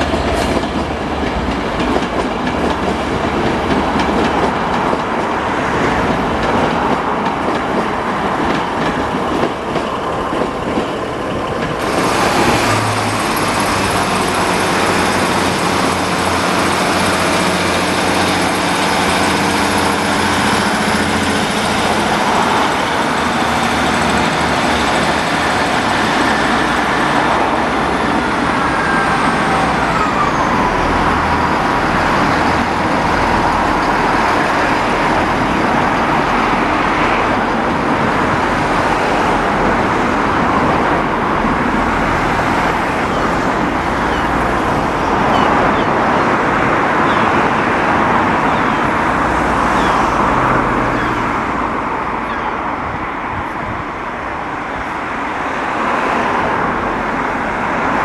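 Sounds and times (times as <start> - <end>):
vehicles running close by: 0.0 - 58.0.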